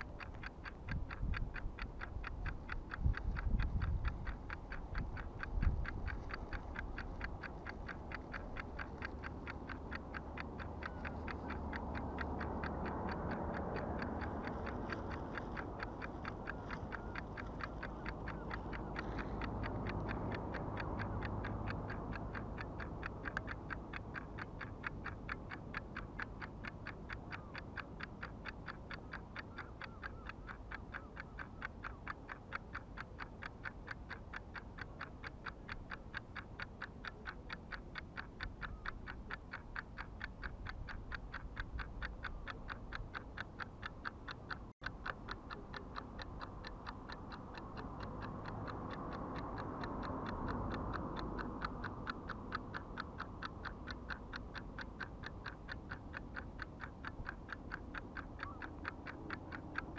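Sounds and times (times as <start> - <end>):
rapid ticks: 0.0 - 59.9.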